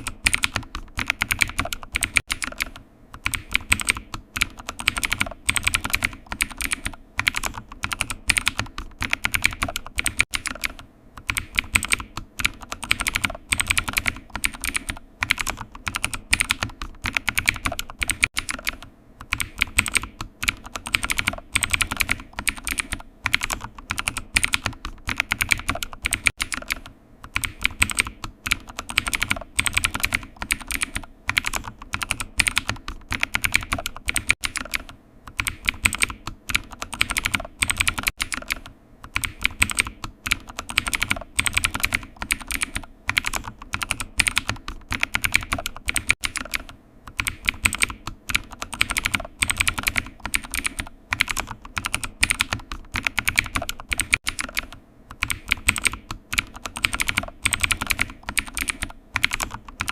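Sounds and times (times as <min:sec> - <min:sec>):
typing on computer keyboard: 0:00.0 - 0:59.9.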